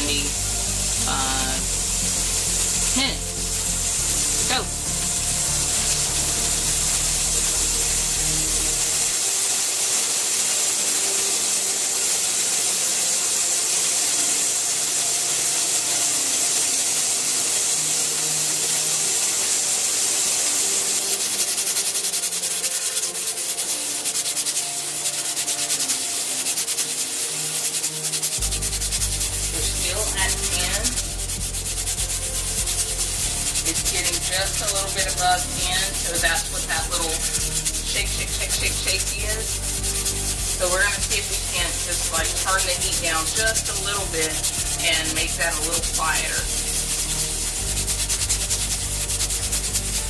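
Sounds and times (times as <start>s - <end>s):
steam hissing: 0.0s - 50.0s.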